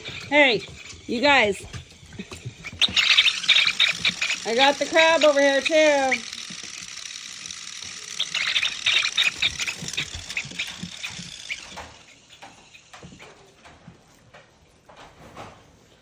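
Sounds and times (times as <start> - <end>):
puppy paws pattering and scuffing: 0.0 - 6.1, 9.2 - 16.0.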